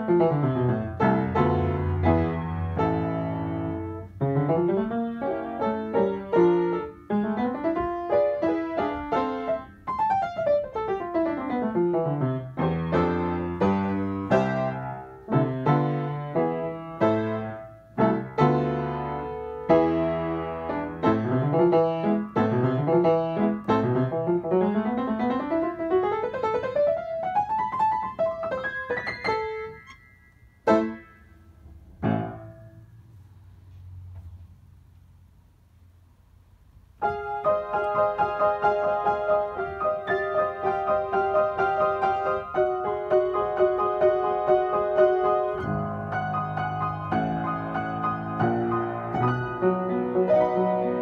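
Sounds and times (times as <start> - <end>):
upright piano played fast: 0.0 - 33.2, 36.9 - 51.0.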